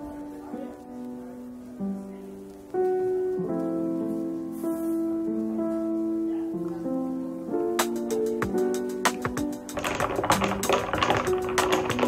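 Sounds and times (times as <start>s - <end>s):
slow instrumental melody: 0.0s - 10.7s.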